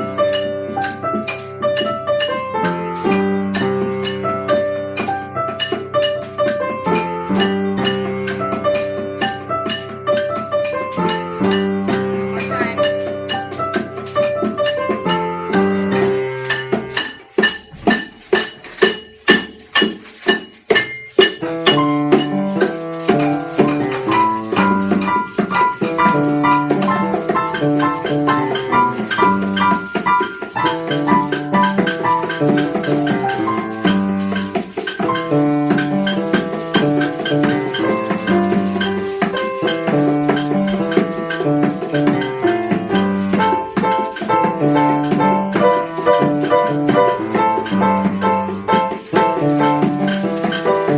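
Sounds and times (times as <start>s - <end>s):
steady percussive pulse: 0.0s - 50.9s.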